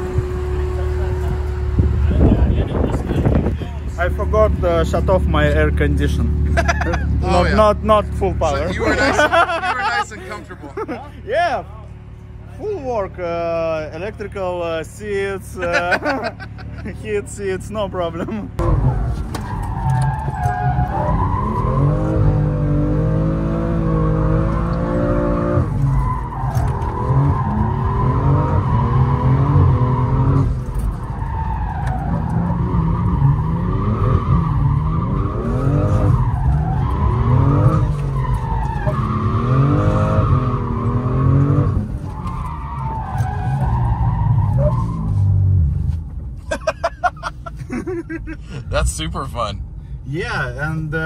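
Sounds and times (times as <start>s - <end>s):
car engine revving: 0.0s - 47.8s.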